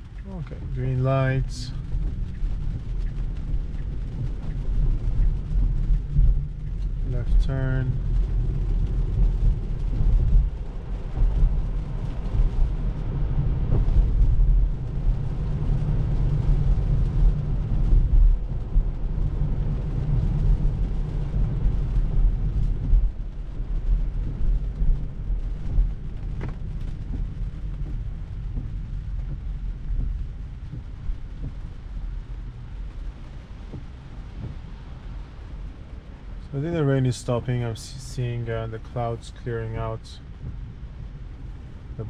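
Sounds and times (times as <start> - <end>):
heavy rain on car roof and glass: 0.0 - 42.0
tyres rumbling on wet road: 0.0 - 42.0.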